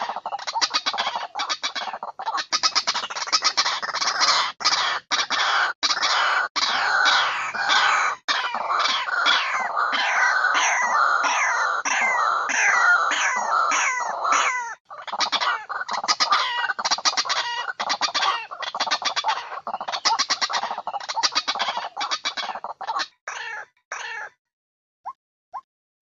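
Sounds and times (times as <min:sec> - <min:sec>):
waterhen calling: 0:00.0 - 0:24.3.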